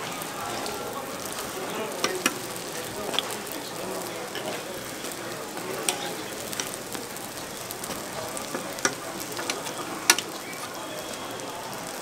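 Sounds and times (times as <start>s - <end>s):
pancake sizzling in oil: 0.0s - 12.0s.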